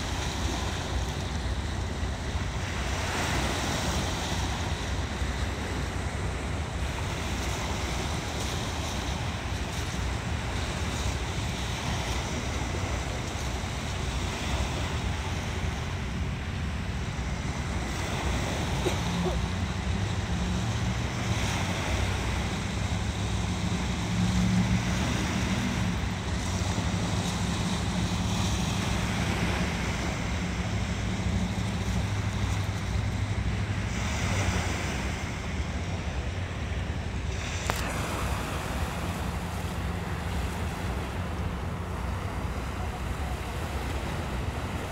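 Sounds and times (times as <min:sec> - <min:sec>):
waves washing over rocks: 0:00.0 - 0:44.9.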